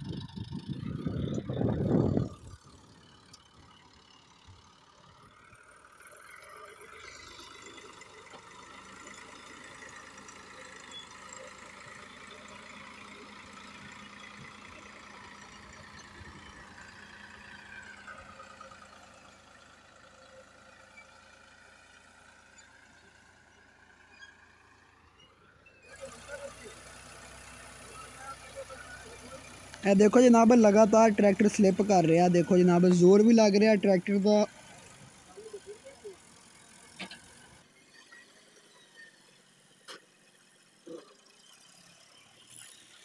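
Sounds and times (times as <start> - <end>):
tractor diesel engine labouring: 0.0 - 43.0.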